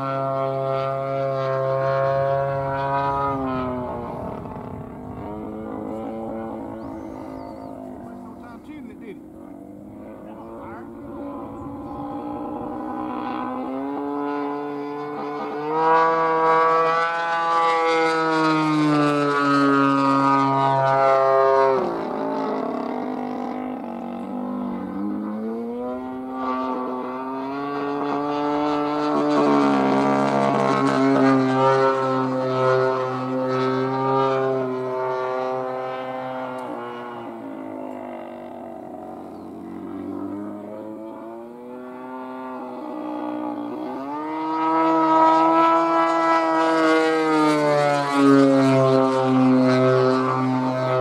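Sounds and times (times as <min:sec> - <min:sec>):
model plane engine: 0:00.0 - 0:51.0.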